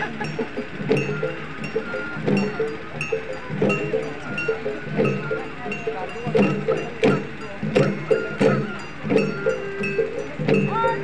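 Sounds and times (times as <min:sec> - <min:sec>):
drums in a steady beat: 0:00.0 - 0:11.0
ringing metallic gong tones: 0:00.0 - 0:11.0.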